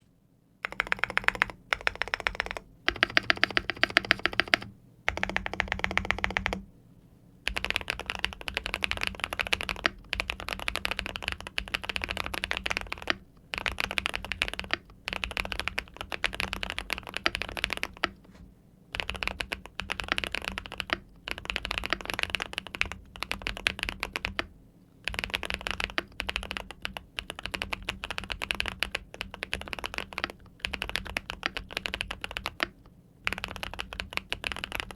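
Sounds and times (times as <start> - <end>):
mechanical keyboard typing: 0.6 - 6.6, 7.5 - 18.2, 18.9 - 34.9.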